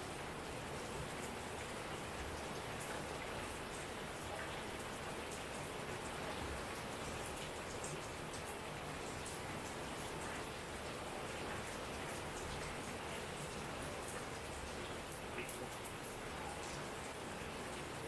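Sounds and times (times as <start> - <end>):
raindrops ticking on surfaces: 0.0 - 18.0
steady rain hiss: 0.0 - 18.0.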